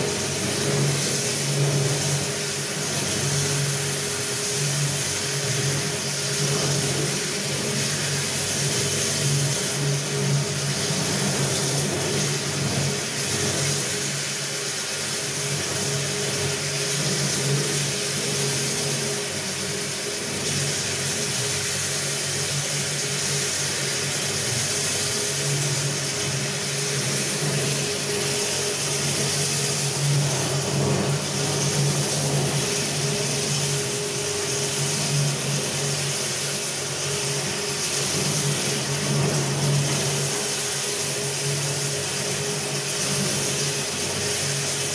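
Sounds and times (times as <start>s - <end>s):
floor polishing machine running: 0.0s - 44.9s.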